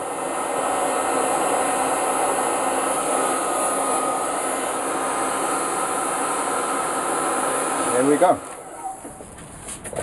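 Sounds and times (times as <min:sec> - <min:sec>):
hair dryer blowing: 0:00.0 - 0:09.4.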